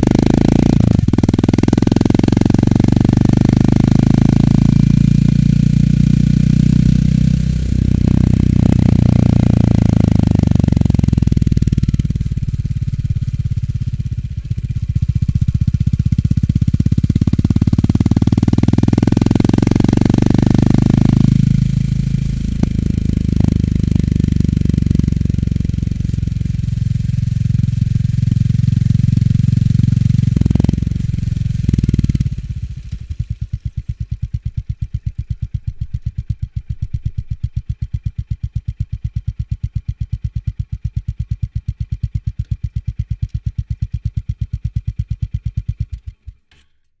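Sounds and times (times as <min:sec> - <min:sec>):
motorcycle engine: 0:00.0 - 0:46.8.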